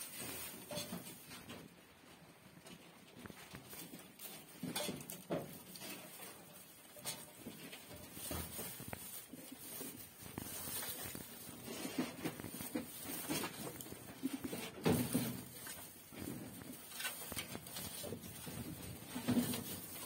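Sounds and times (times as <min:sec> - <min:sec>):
dry straw rustling and crackling: 0:00.0 - 0:01.7, 0:02.6 - 0:20.0.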